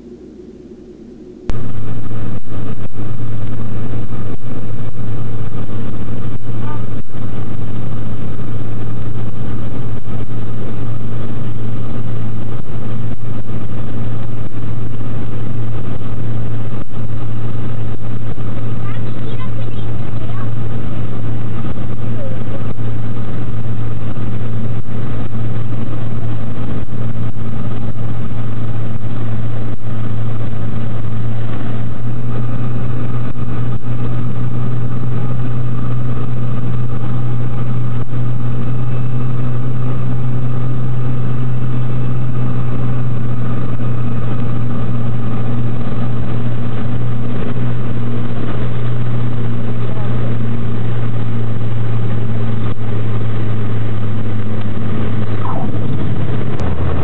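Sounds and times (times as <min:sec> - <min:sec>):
propeller engine drone in cabin: 0:00.0 - 0:57.0.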